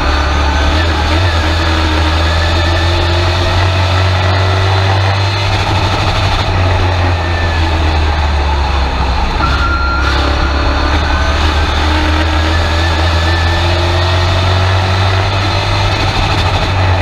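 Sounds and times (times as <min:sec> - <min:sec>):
truck engine running loud: 0:00.0 - 0:17.0.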